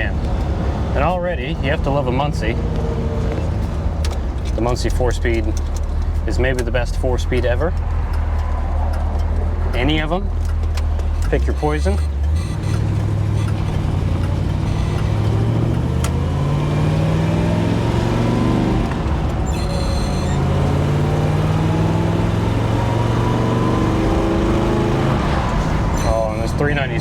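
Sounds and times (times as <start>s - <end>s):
car engine accelerating through gears: 0.0s - 27.0s.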